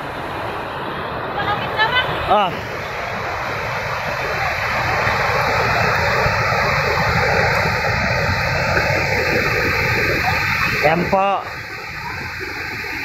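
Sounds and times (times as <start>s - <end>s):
water roaring over a spillway: 0.0s - 13.0s.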